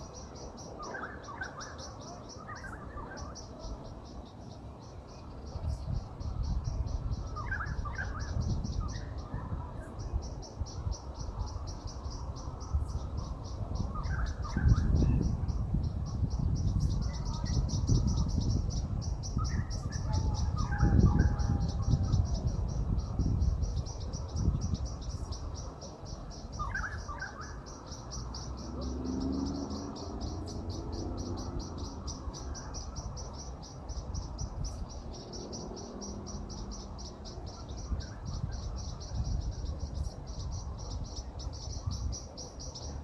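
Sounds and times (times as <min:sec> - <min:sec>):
bird chirp: 0:00.0 - 0:43.0
cricket chirping: 0:00.0 - 0:43.0
low wind rumble: 0:00.0 - 0:43.0.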